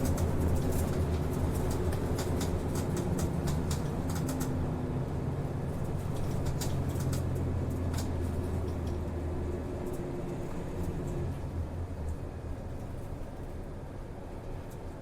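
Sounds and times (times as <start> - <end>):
bus engine hum: 0.0 - 15.0.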